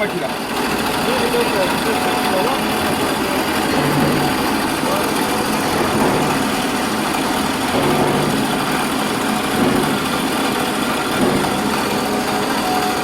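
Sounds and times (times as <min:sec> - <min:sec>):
boring machine running: 0:00.0 - 0:13.0.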